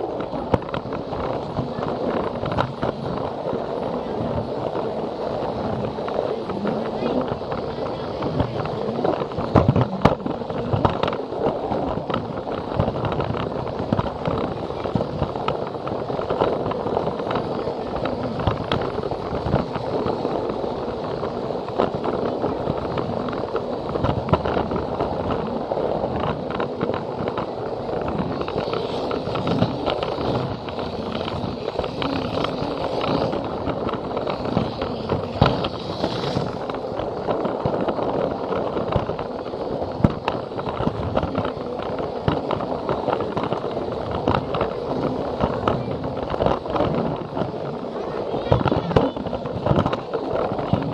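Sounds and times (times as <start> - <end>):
wheels clicking over rail joints: 0.0 - 50.9.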